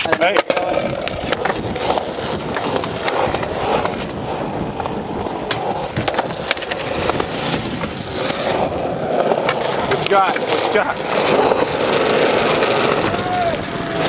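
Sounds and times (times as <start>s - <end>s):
skateboard clacks: 0.0s - 14.0s
skateboard wheels rolling on concrete: 0.0s - 14.0s.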